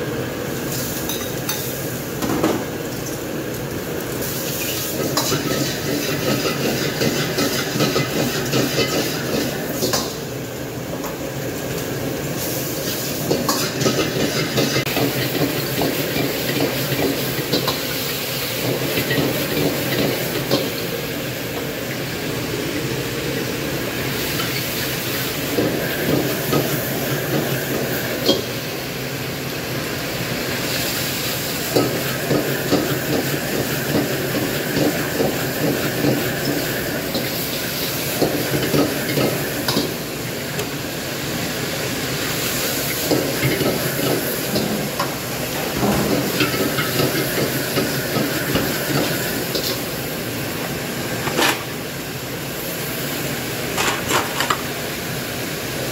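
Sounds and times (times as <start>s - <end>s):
food sizzling: 0.0s - 55.9s
gas burner roaring: 0.0s - 55.9s.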